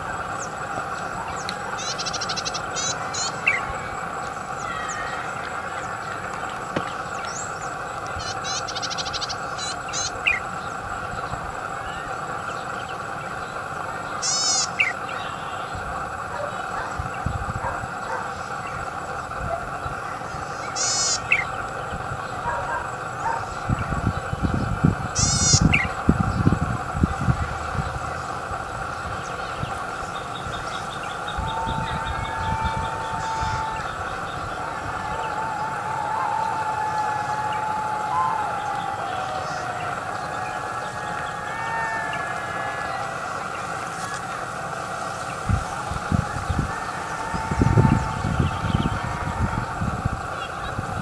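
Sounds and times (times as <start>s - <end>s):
bird singing buzzy trill: 0.0s - 51.0s
steady background drone: 0.0s - 51.0s.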